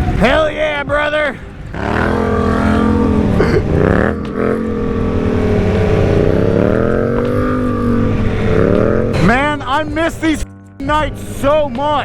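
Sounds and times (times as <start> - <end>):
motorcycle engine cruising: 0.0 - 10.4
wind and road rumble: 0.0 - 12.0.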